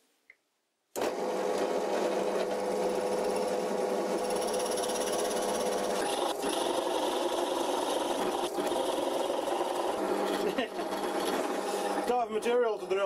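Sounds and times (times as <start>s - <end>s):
drill press boring into wood: 1.0s - 12.2s.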